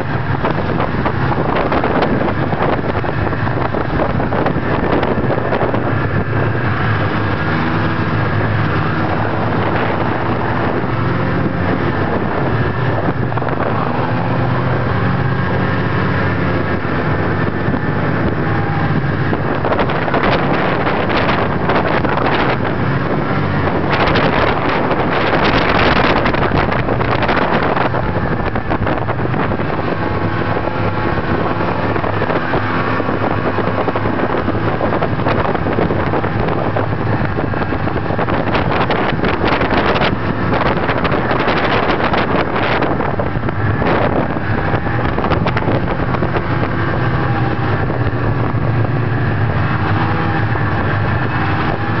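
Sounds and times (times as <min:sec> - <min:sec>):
snowmobile engine running: 0:00.0 - 0:52.0
wind noise on microphone: 0:00.0 - 0:52.0.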